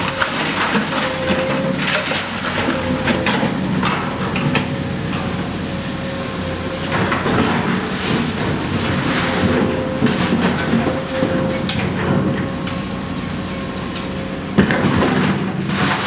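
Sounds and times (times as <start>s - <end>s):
concrete rubble crunching and clanking: 0.0s - 16.0s
excavator diesel engine under load: 0.0s - 16.0s
steady whine: 1.0s - 15.7s.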